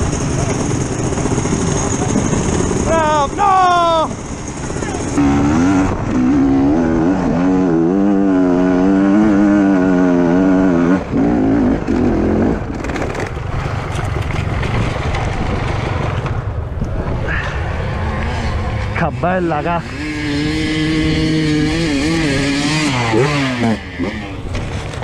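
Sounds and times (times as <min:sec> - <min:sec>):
motorcycle engine revving: 0:04.4 - 0:16.5, 0:17.1 - 0:25.0.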